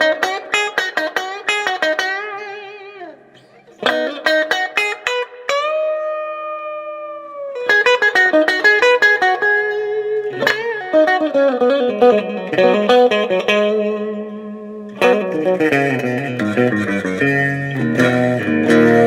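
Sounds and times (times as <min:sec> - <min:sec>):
twangy electric guitar: 0:00.0 - 0:19.0.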